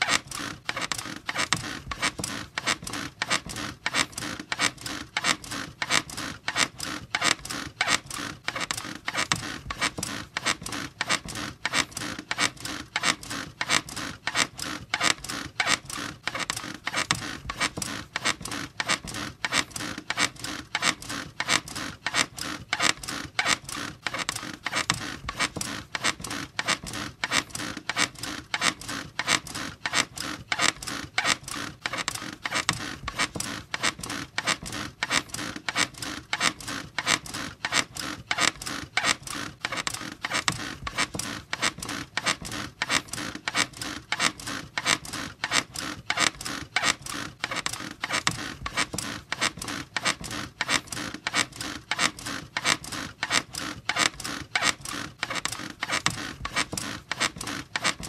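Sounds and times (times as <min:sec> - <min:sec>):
bed springs squeaking: 0:00.0 - 0:58.0.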